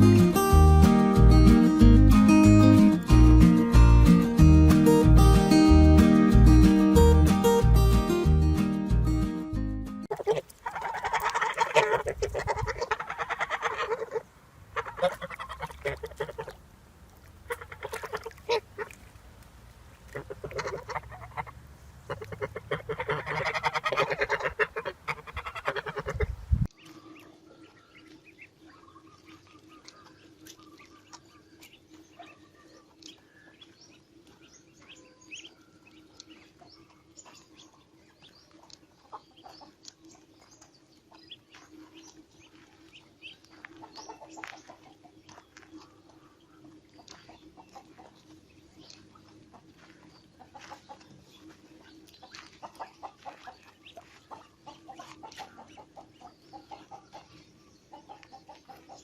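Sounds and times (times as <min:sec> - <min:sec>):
ducks quacking: 0:10.0 - 0:16.6, 0:17.2 - 0:19.1, 0:20.0 - 0:59.0.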